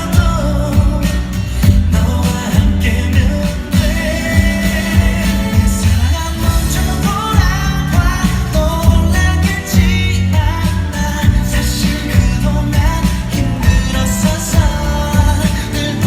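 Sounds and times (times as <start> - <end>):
pop song with sung vocal: 0.0 - 16.0.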